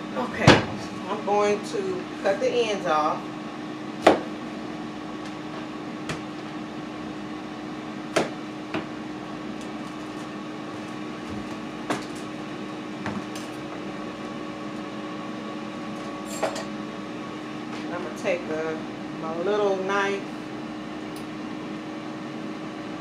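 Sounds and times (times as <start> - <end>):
air fryer humming: 0.0 - 23.0.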